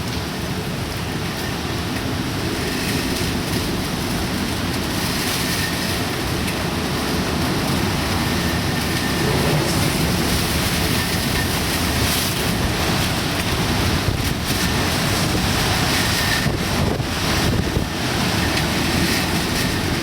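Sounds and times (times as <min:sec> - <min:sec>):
wind and rain rushing: 0:00.0 - 0:20.0.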